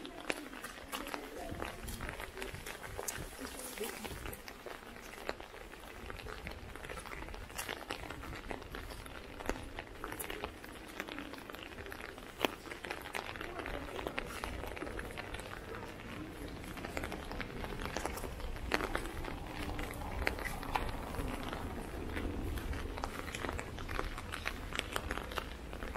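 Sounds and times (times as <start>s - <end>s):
footsteps on wet cobblestones: 0.0s - 25.9s
wind rumble on microphone: 1.1s - 25.9s.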